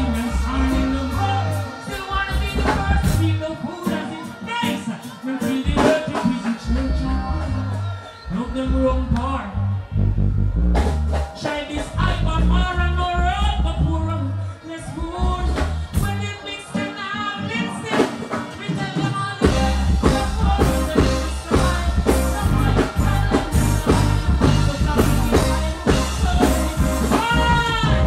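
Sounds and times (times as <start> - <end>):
man singing into a microphone: 0.0 - 9.6, 11.4 - 28.0
live reggae band: 0.0 - 28.0.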